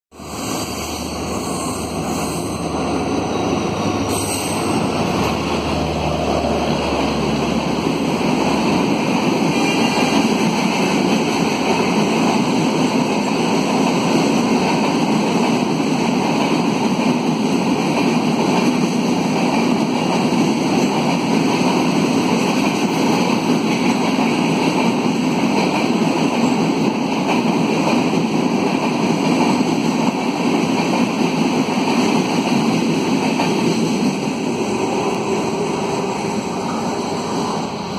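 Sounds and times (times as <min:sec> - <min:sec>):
train rushing past: 0:00.1 - 0:37.9.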